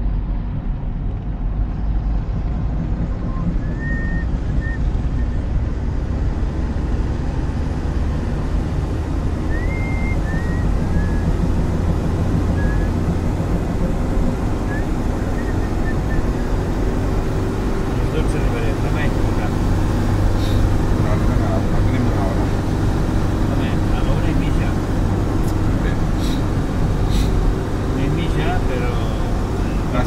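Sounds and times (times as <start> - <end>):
engine and tyre rumble in car: 0.0 - 30.0.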